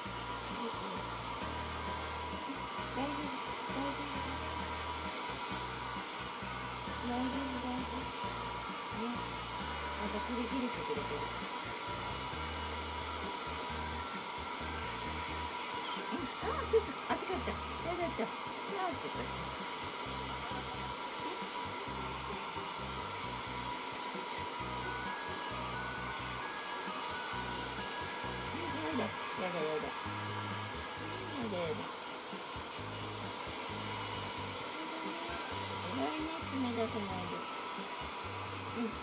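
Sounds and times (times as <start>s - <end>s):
hair dryer blowing: 0.0s - 39.0s.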